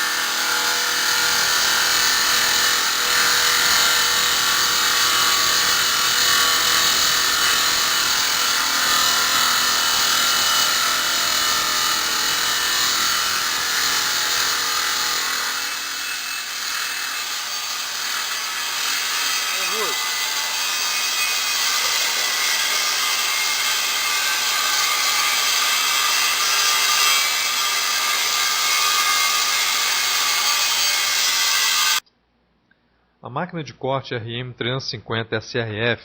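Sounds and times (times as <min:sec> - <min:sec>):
saw blade grinding through stone: 0:00.0 - 0:32.0.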